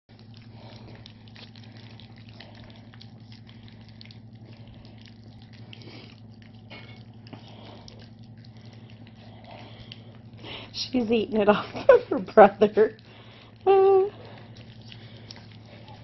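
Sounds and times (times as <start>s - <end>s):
puppies lapping and chewing: 0.1s - 16.0s
steady low hum: 0.1s - 16.0s.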